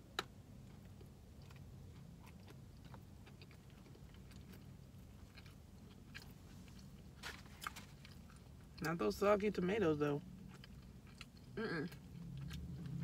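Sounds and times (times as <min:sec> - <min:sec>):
low steady hum: 0:00.0 - 0:13.0
chewing and biting food: 0:00.1 - 0:09.0, 0:10.2 - 0:13.0.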